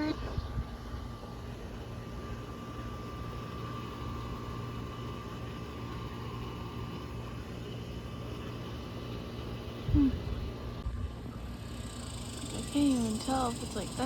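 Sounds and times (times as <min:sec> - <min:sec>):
faint steady high whine: 0:00.0 - 0:14.0
low rumble and hiss: 0:00.0 - 0:14.0.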